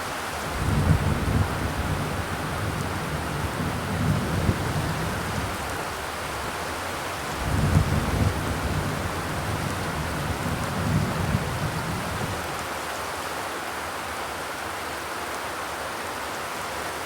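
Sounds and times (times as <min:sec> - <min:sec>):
heavy rainfall hiss: 0:00.0 - 0:17.0.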